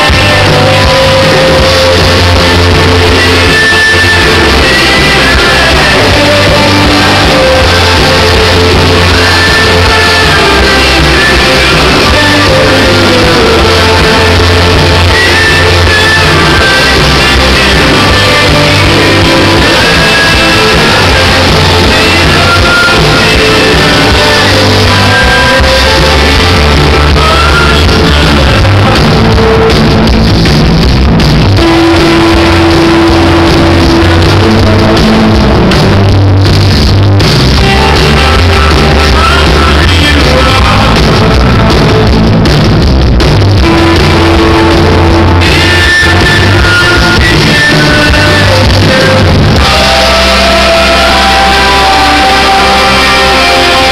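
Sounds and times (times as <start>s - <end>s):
lead vocal singing: 0.0s - 30.2s, 31.6s - 36.0s, 37.5s - 42.2s, 43.6s - 53.9s
rock band playing live: 0.0s - 53.9s.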